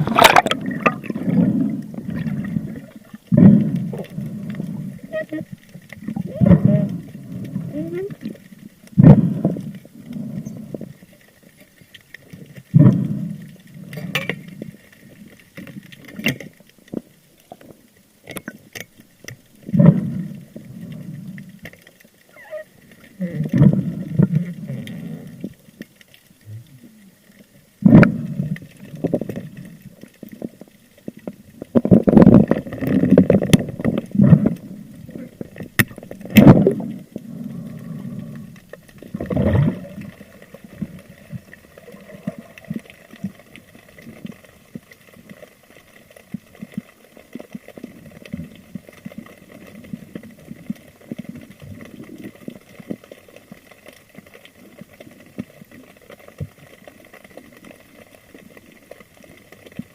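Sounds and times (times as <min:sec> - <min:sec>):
water sounds: 0:00.0 - 0:59.9
faint clicks: 0:00.4 - 0:59.9.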